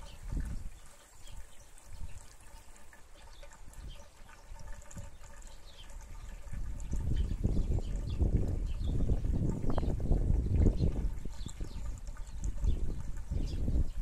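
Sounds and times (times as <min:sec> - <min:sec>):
pond water trickling and lapping: 0:00.0 - 0:14.0.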